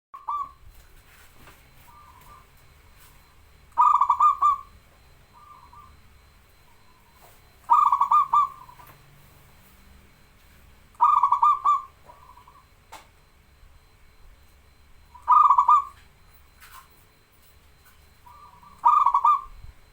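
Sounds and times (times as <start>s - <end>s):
dove cooing: 0.2s - 17.0s, 17.6s - 19.9s.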